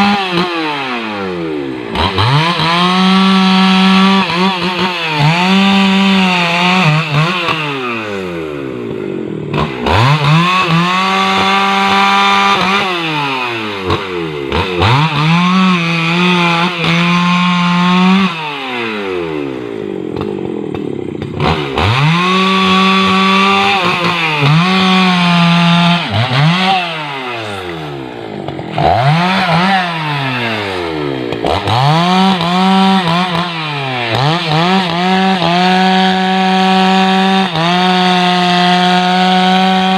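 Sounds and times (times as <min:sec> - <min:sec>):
chainsaw revving while cutting logs: 0:00.0 - 0:39.9.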